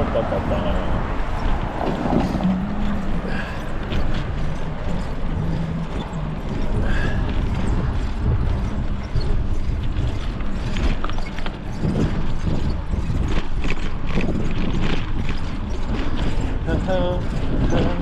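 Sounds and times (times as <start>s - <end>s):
bicycle mechanism clicking and rattling: 0.0s - 18.0s
wind and road noise: 0.0s - 18.0s.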